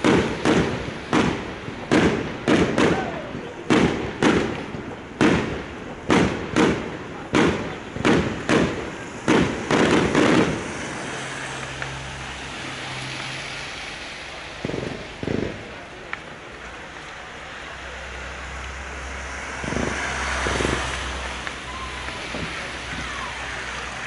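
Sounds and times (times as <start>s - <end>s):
fireworks bursting: 0.0s - 24.0s
fireworks hiss and crackle: 0.0s - 24.0s.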